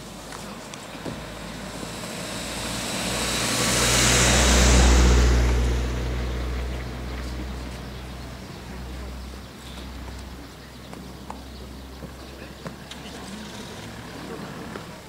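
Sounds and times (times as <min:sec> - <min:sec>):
car engine hum: 0:00.0 - 0:15.0.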